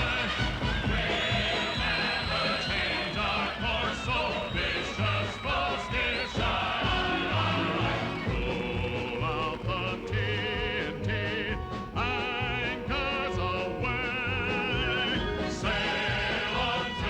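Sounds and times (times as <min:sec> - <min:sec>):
band accompaniment with steady beat: 0:00.0 - 0:17.0
group singing with vibrato: 0:00.0 - 0:17.0.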